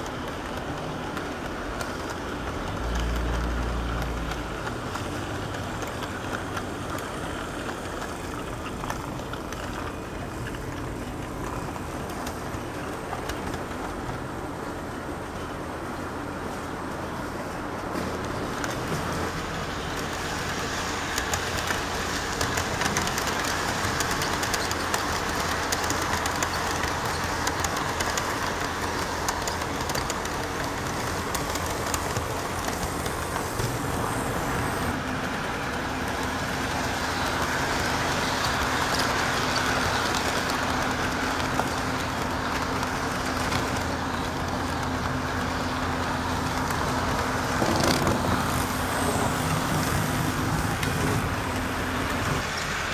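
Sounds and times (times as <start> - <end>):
model train rumble and ticking: 0.0 - 52.9.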